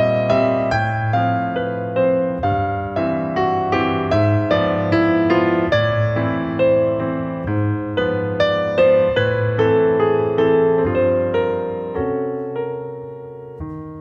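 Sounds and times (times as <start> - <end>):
piano notes over held chords: 0.0 - 14.0.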